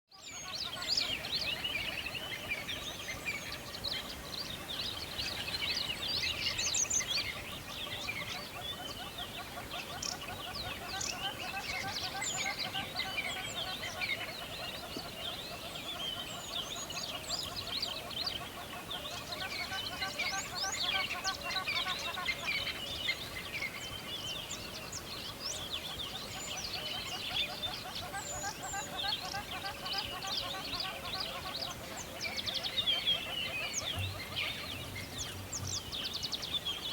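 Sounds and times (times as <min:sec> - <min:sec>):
many small birds chirping: 0:00.1 - 0:36.9.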